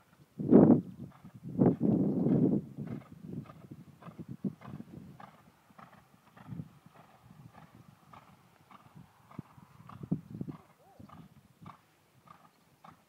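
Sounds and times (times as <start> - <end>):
horse hooves cantering on sand: 0.1 - 13.0.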